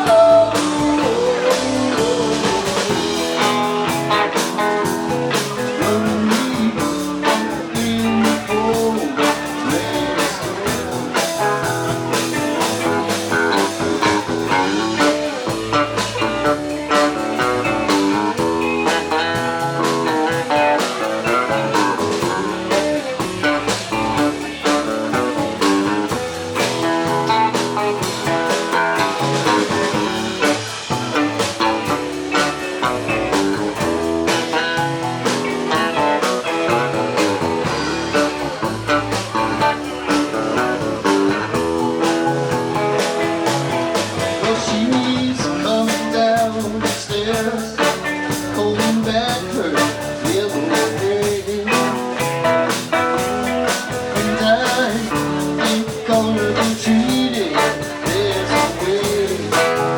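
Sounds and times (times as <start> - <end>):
live band instrumental jam: 0.0 - 59.9.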